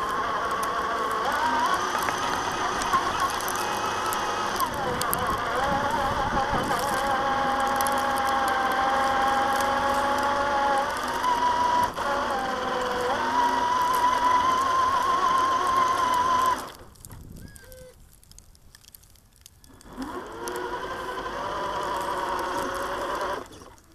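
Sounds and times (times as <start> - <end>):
electric motor whining: 0.0 - 17.9, 19.6 - 23.9.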